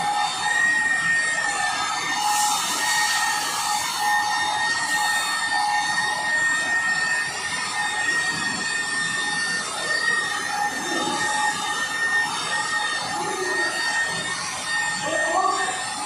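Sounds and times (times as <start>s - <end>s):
electric polisher whining: 0.0s - 16.0s.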